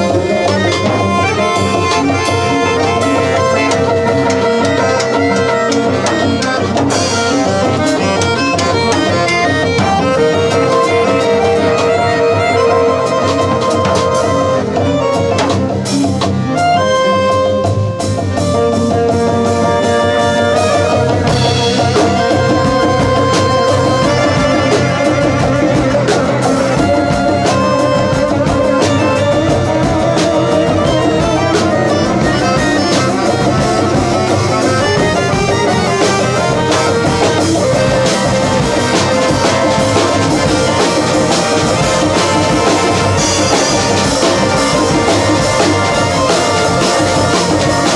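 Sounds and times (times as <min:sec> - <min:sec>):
accordion: 0:00.0 - 0:47.9
drum kit: 0:00.0 - 0:47.9
electric guitar: 0:00.0 - 0:47.9.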